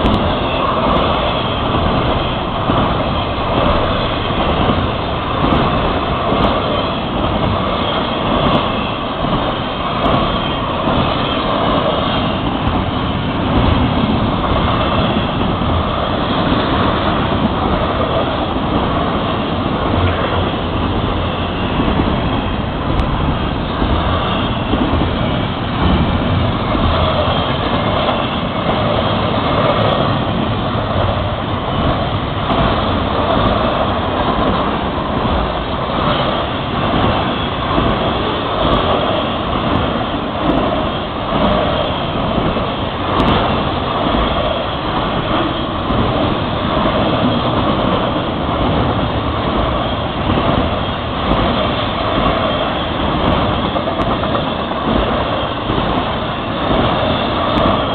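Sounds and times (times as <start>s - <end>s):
freight train wheels on rails: 0.0s - 57.9s.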